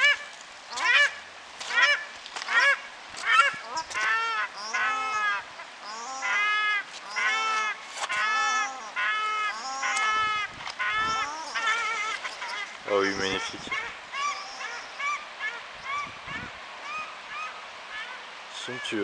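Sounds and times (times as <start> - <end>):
ducks calling: 0.0 - 19.0.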